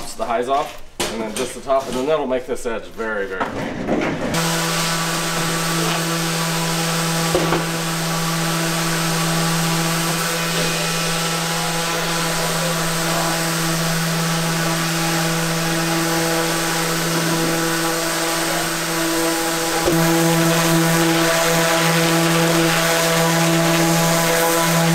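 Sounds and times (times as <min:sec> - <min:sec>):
orbital sander running: 0:04.4 - 0:24.9.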